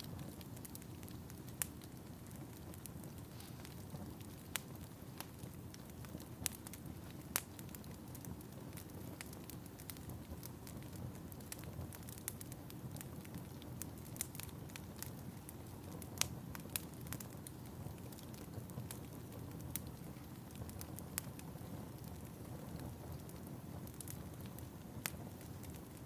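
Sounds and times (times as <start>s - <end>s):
fire crackling: 0.0s - 26.0s
flames rushing: 0.0s - 26.0s
sharp pops of fire: 0.0s - 26.0s.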